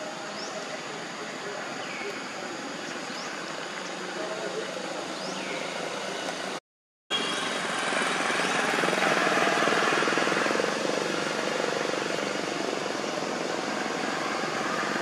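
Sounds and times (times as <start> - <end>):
engine drone with fast flutter: 2.5 - 15.0.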